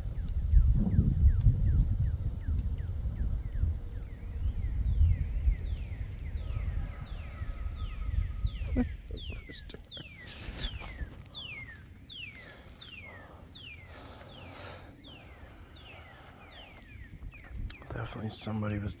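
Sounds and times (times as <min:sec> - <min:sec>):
wind rumble on microphone: 0:00.0 - 0:13.4, 0:15.1 - 0:19.0.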